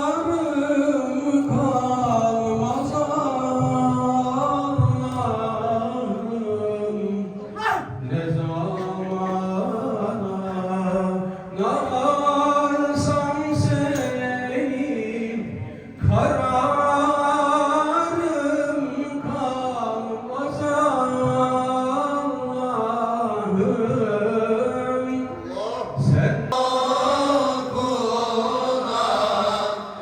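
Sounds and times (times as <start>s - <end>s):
person chanting a hymn: 0.0s - 30.0s.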